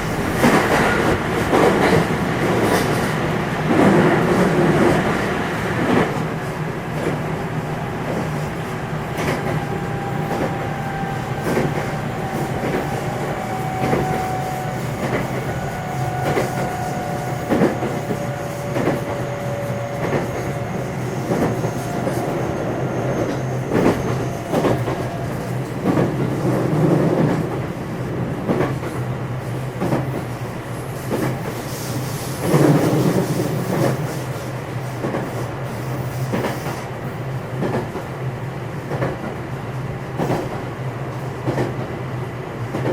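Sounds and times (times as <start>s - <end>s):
train running rumble: 0.0s - 42.9s.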